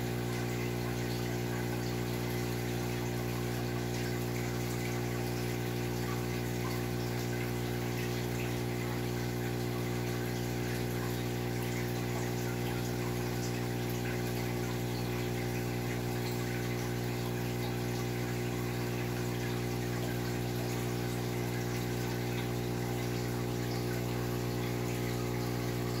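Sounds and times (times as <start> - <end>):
aquarium pump humming: 0.0 - 26.0.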